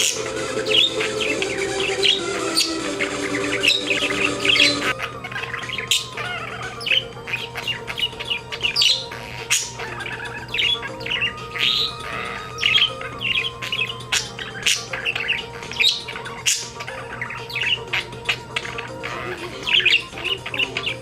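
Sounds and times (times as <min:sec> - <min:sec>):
budgerigar warbling: 0:00.0 - 0:21.0.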